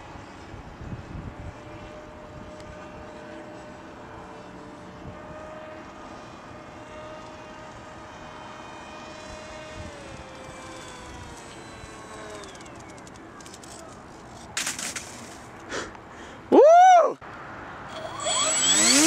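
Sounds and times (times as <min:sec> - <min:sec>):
model airplane motor whine: 0:00.1 - 0:15.4, 0:17.9 - 0:19.0.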